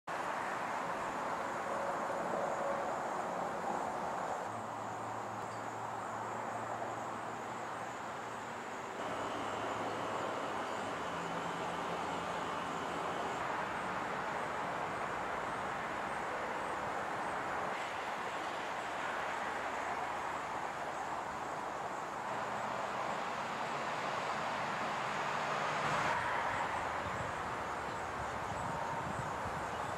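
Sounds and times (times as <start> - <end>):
constant hiss: 0.1 - 29.9
outdoor ambient noise: 0.1 - 29.9.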